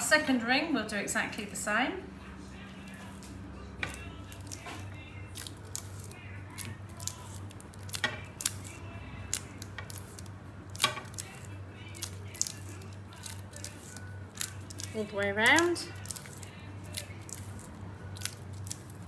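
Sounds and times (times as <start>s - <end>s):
sticky tape crinkling and clicking: 2.9s - 19.0s.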